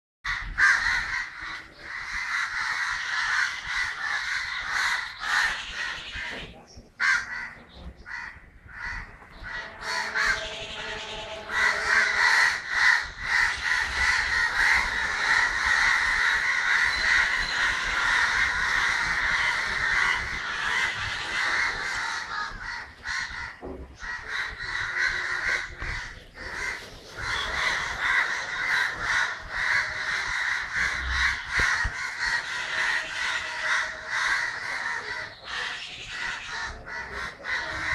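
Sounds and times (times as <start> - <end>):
crows cawing: 0.3 - 37.9.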